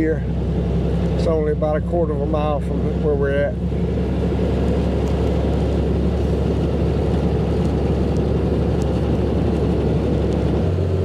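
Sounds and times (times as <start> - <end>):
truck engine drone: 0.0 - 11.0
tyre and road noise: 0.0 - 11.0.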